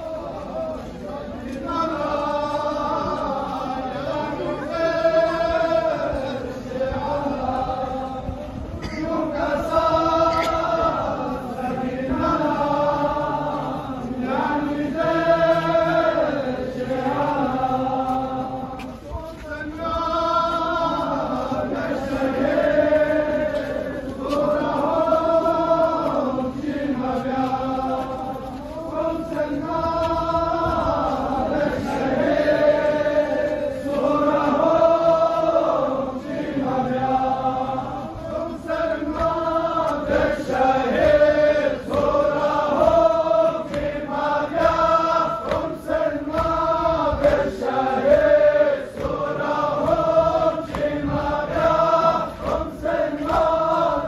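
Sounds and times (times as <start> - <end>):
crowd of men chanting: 0.0 - 54.0.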